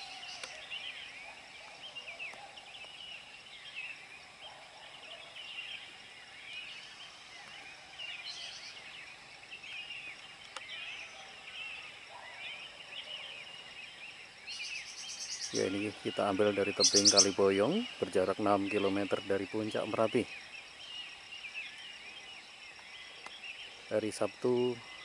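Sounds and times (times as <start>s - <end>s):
birds chirping and twittering: 0.0s - 25.0s.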